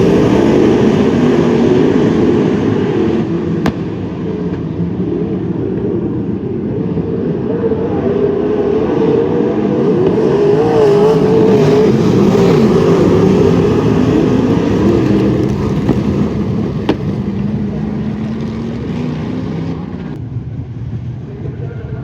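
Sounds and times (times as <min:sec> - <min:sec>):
racing car engines: 0:00.0 - 0:22.0.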